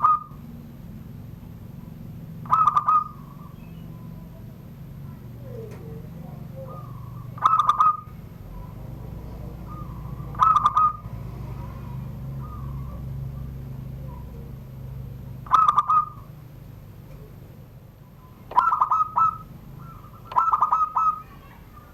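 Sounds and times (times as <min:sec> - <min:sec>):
dove cooing: 0:00.0 - 0:00.6, 0:01.7 - 0:21.9.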